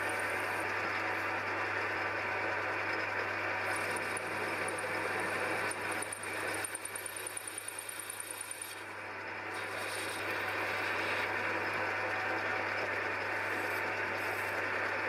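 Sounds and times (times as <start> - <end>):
steady hum: 0.0 - 6.7, 7.8 - 15.0
metal lathe machining: 0.0 - 15.0.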